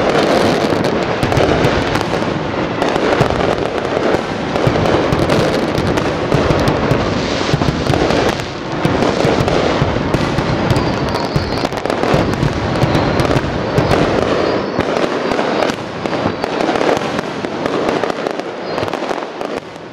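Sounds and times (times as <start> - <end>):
fireworks bursting and crackling: 0.0 - 19.9.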